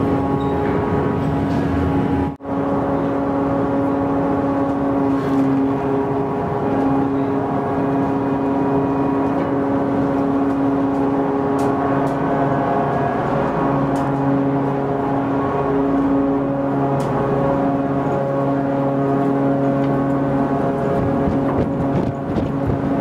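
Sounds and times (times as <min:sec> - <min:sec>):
ferry engine drone: 0:00.0 - 0:23.0.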